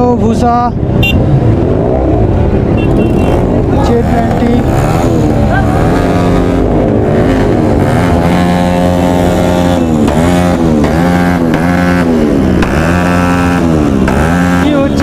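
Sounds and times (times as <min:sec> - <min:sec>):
motorcycle engine at high revs: 0:01.0 - 0:15.0.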